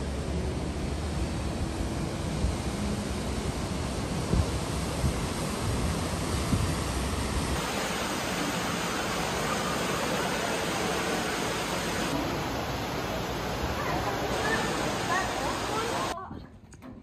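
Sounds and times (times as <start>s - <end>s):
whitewater rushing: 1.3s - 16.2s.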